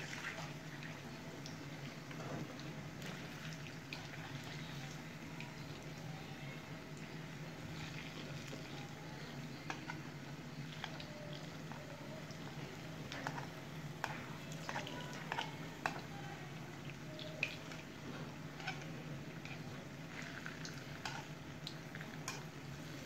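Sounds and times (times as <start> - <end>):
frying in bubbling oil: 0.0 - 23.0
low steady hum: 0.0 - 23.0.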